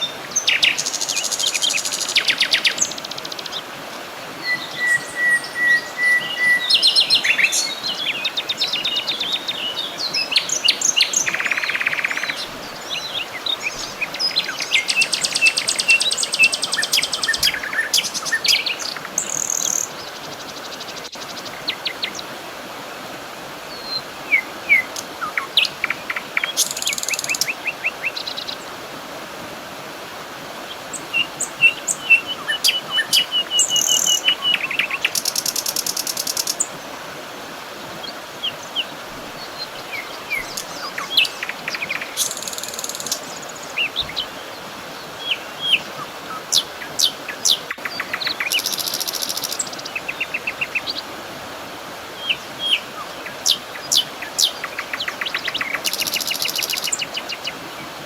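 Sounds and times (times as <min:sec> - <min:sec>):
birds singing and calling: 0:00.0 - 0:03.7, 0:04.4 - 0:22.3, 0:23.7 - 0:28.6, 0:30.7 - 0:36.8, 0:37.9 - 0:51.1, 0:52.1 - 0:58.0
background hiss: 0:00.0 - 0:58.0.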